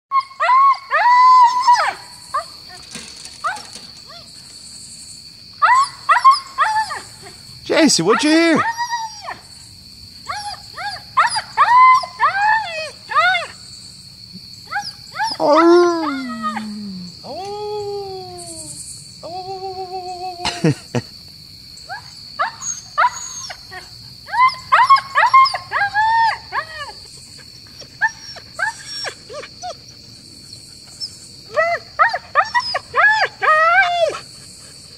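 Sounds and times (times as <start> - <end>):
sled dogs whining and yelping: 0.1 - 5.0, 5.6 - 9.6, 10.2 - 13.6, 14.6 - 18.8, 21.8 - 34.9
high insect drone: 0.1 - 34.9.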